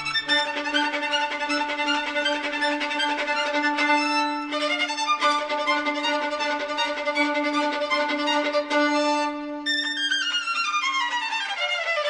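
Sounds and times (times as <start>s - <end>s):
fast violin playing: 0.0s - 12.0s.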